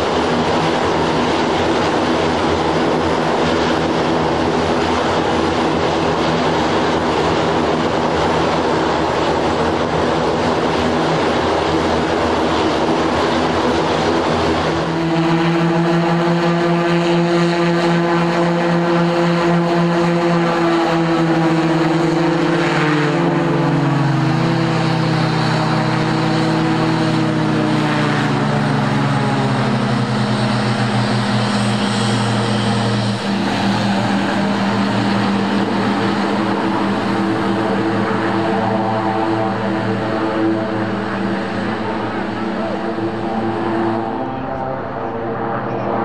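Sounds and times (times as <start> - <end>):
turboprop propeller drone: 0.0 - 46.0.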